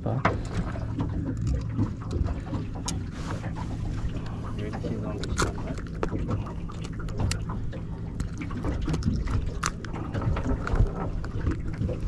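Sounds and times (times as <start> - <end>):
low steady rumble: 0.0 - 12.0
water sloshing against hull: 0.0 - 12.0.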